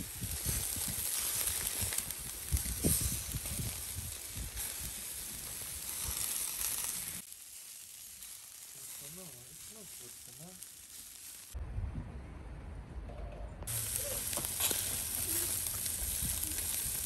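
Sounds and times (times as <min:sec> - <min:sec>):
food sizzling on a grill: 0:00.0 - 0:11.6, 0:13.7 - 0:17.0.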